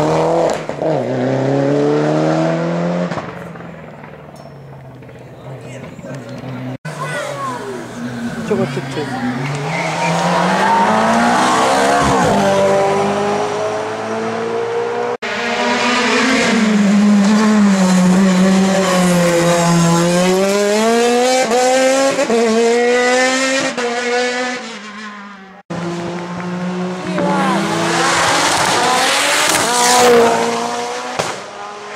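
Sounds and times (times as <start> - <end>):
race car engines at high revs: 0.0 - 4.3, 5.9 - 31.9.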